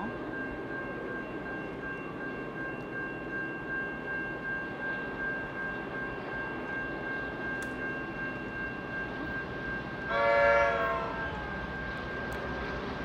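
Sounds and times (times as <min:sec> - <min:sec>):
distant diesel locomotives rumbling: 0:00.0 - 0:13.0
steady high-pitched tone: 0:00.0 - 0:13.0.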